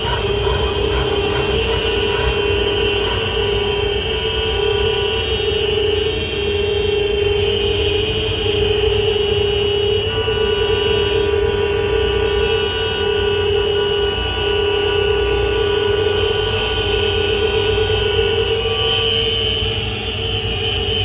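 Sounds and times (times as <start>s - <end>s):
vehicle horns blaring: 0.0s - 21.0s.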